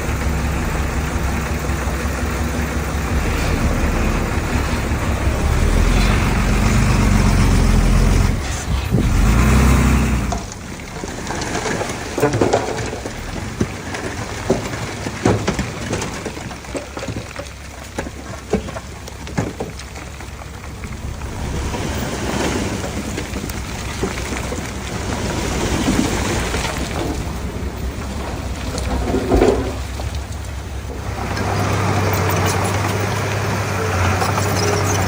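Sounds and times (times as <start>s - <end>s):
knocks and clatter: 0.0s - 35.0s.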